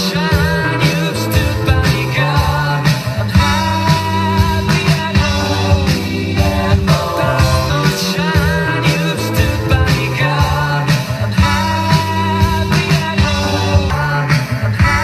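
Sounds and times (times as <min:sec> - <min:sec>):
song through loudspeaker: 0:00.0 - 0:15.0.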